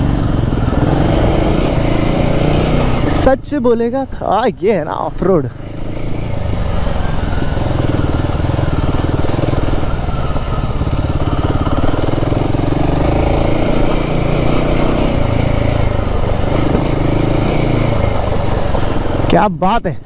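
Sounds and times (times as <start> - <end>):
motorcycle engine running: 0.0 - 19.7.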